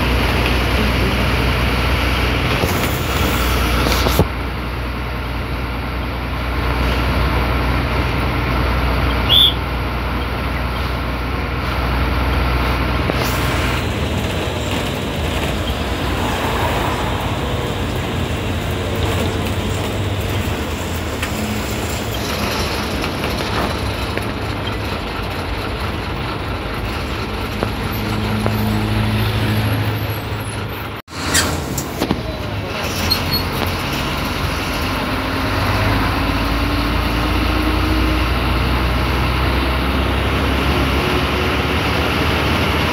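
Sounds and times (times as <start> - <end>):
diesel bus engine running: 0.0 - 42.9
road and tyre noise: 0.0 - 42.9.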